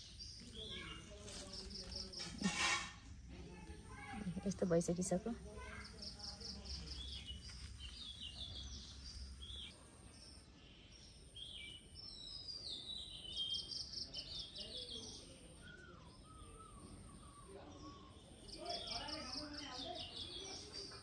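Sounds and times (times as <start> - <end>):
small birds chirping: 0.0 - 2.5, 3.3 - 21.0.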